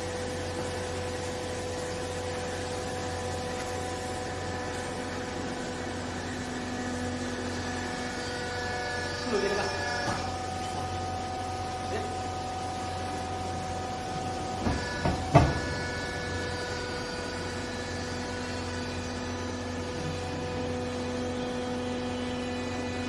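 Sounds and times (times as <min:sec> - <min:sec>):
hydraulic power pack hum and whine: 0:00.0 - 0:23.0.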